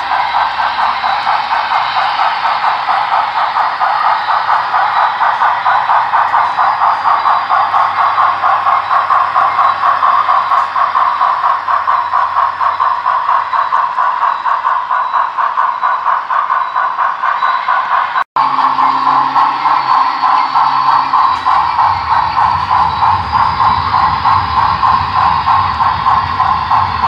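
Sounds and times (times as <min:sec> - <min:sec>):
model steam locomotive chuffing: 0:00.0 - 0:27.0.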